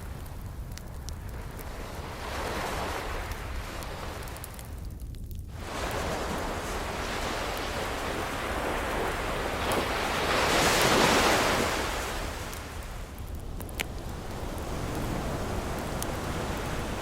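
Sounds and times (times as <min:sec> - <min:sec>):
wood fire popping: 0:00.0 - 0:06.0, 0:06.7 - 0:17.0
ocean wave breaking: 0:01.7 - 0:04.3, 0:05.6 - 0:17.0.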